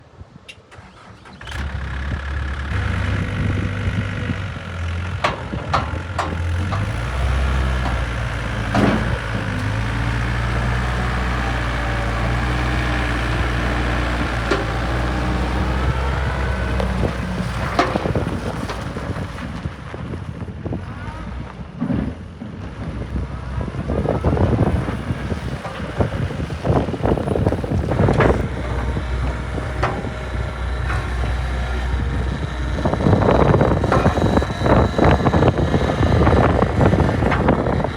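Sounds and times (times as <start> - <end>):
excavator diesel engine running: 0.8 - 37.9.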